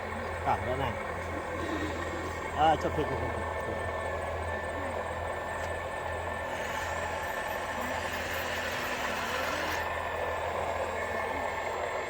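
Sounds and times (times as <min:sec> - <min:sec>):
electric motor humming with whine: 0:00.0 - 0:12.0.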